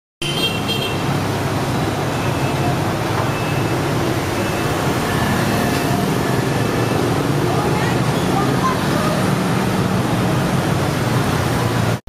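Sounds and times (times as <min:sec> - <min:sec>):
motor traffic din: 0:00.2 - 0:12.0.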